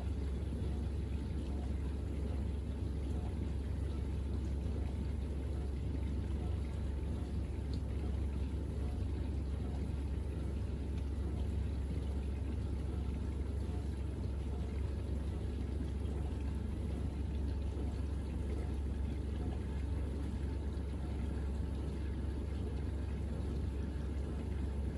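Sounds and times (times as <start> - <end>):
dishwasher hum: 0.0 - 24.9.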